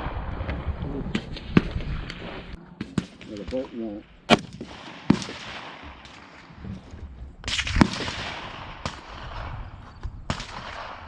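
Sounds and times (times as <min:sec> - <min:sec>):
rifle shots echoing: 0:01.2 - 0:06.6, 0:07.4 - 0:11.0.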